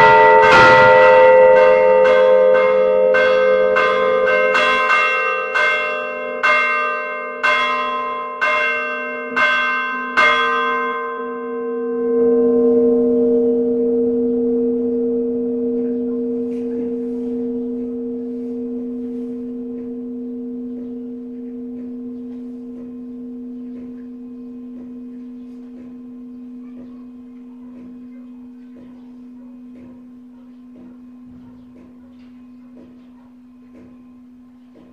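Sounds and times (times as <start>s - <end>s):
deep bell hum ringing on: 0.0s - 31.3s
church bells striking: 0.0s - 34.9s.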